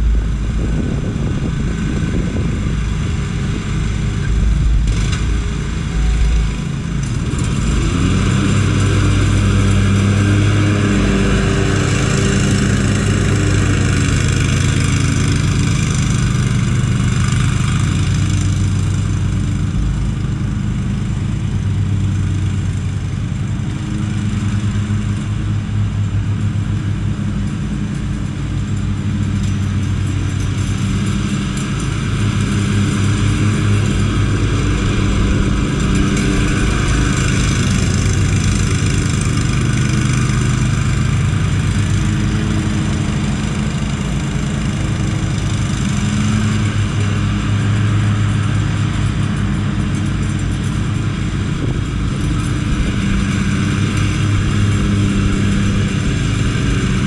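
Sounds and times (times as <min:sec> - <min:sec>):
lawn mower engines running: 0:00.0 - 0:57.0.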